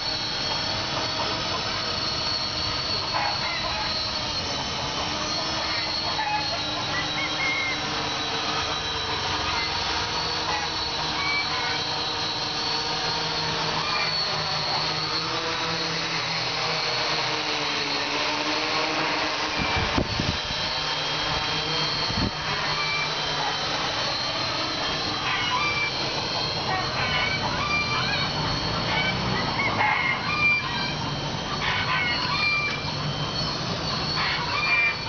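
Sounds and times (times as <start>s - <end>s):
drone motors buzzing whine: 0.0s - 35.0s.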